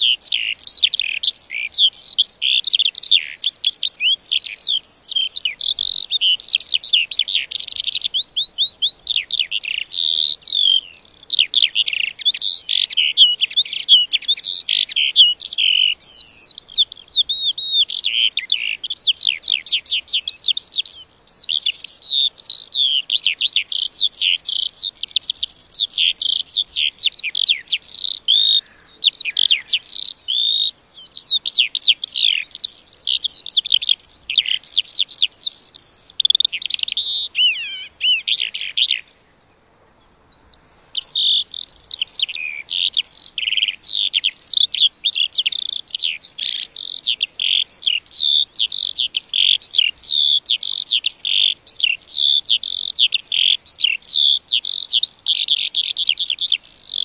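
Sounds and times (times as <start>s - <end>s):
lark singing: 0.0s - 57.0s.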